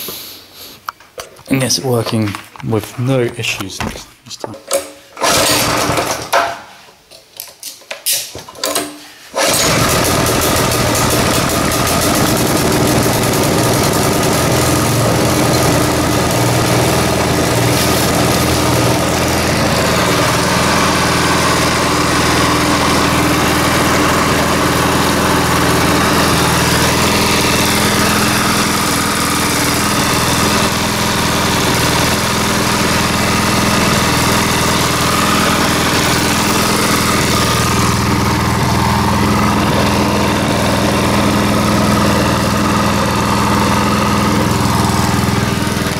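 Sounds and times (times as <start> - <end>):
single-cylinder engine running: 5.2 - 6.1, 9.4 - 45.9.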